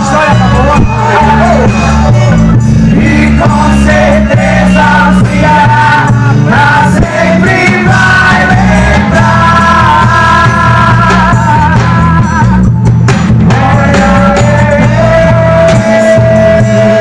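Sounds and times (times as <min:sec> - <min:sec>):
loud music with singing: 0:00.0 - 0:17.0.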